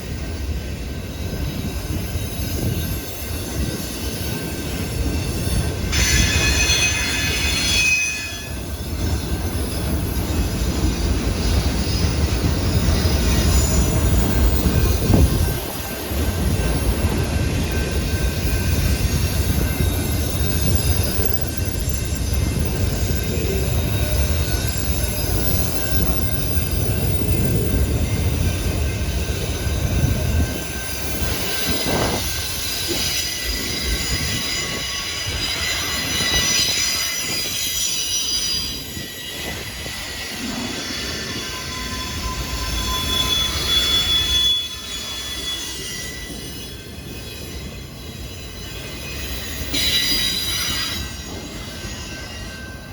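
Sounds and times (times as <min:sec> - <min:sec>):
train rolling past: 0:00.0 - 0:52.9
train wheels squealing on rails: 0:00.0 - 0:52.9.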